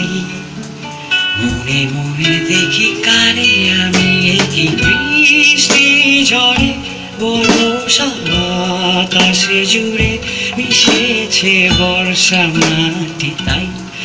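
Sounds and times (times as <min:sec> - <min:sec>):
band music with drums and guitar: 0:00.0 - 0:14.0.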